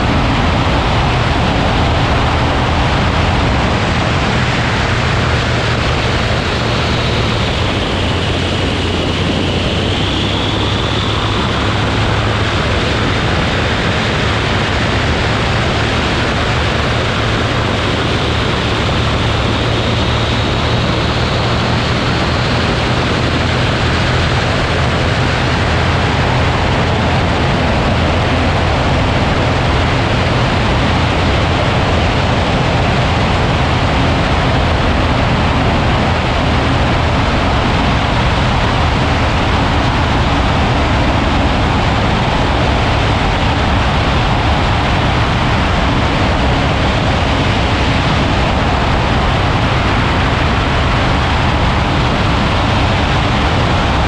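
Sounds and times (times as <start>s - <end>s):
aircraft engine drone: 0.0s - 54.0s
wind rushing over microphone: 0.0s - 54.0s.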